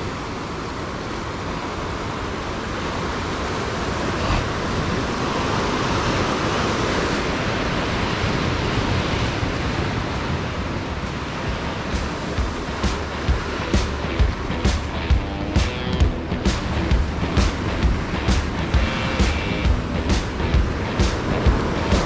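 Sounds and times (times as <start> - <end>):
surf breaking on rocks: 0.0 - 22.0.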